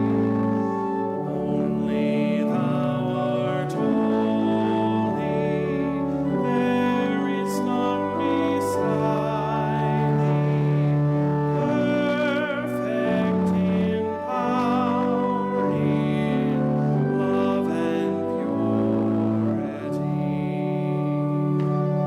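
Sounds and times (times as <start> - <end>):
person singing a hymn: 0.0 - 22.0
sustained instrumental accompaniment: 0.0 - 22.0.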